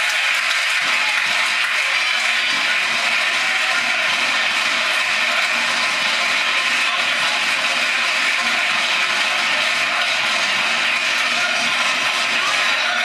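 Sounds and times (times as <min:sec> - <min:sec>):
indoor crowd din: 0:00.0 - 0:13.0.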